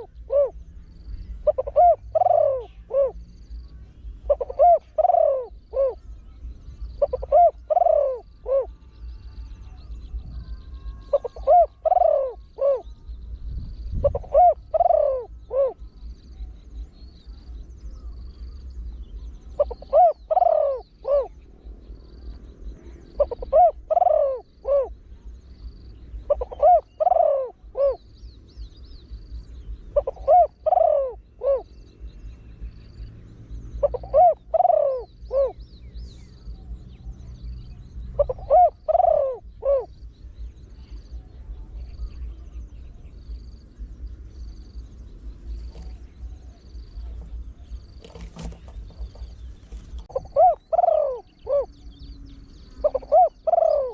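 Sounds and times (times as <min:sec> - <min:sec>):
dove cooing: 0:00.0 - 0:13.0, 0:13.9 - 0:28.2, 0:29.1 - 0:33.1, 0:33.7 - 0:53.9.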